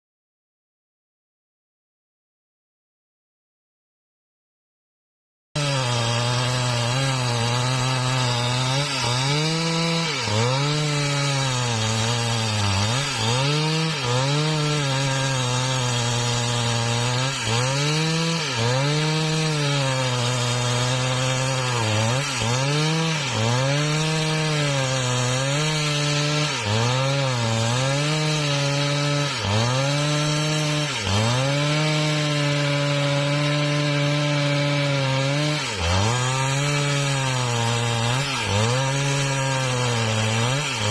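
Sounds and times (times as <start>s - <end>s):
chainsaw cutting log: 5.6s - 40.9s.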